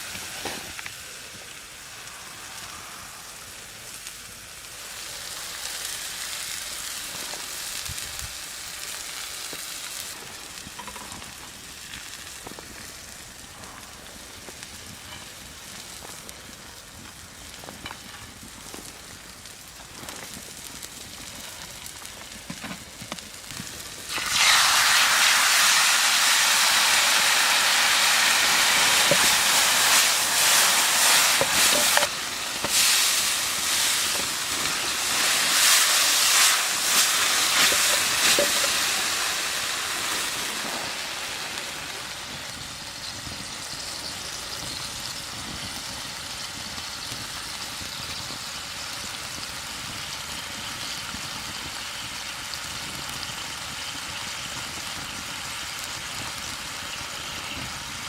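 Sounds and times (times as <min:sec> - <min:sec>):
meat sizzling in hot fat: 0:00.0 - 0:58.0.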